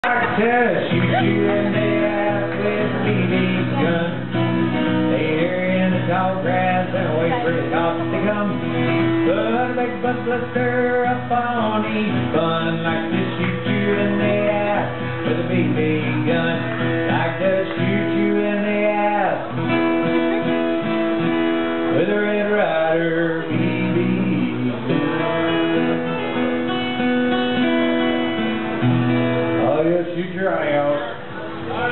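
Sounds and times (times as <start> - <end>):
acoustic guitar playing: 0.0 - 31.9.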